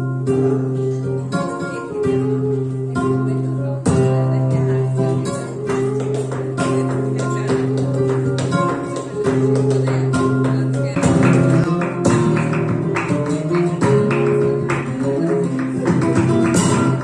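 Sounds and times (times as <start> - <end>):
flamenco guitar: 0.0 - 17.0.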